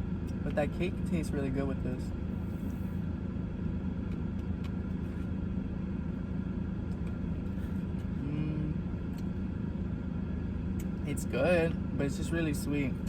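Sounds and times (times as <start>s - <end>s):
car engine rumble inside cabin: 0.0s - 13.0s.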